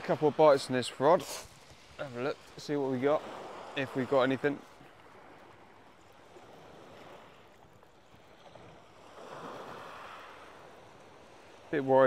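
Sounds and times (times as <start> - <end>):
small waves washing over shingle: 0.0 - 12.0.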